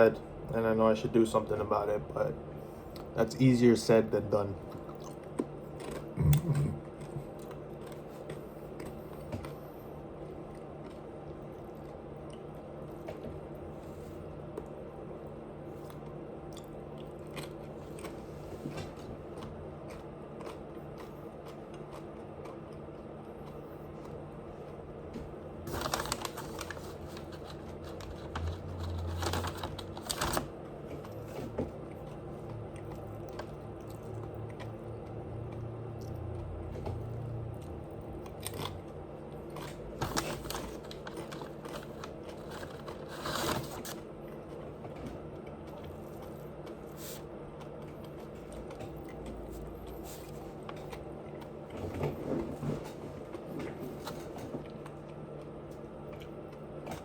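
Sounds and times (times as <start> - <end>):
steady low hum: 0.0 - 57.0
crunching and chewing: 4.1 - 57.0.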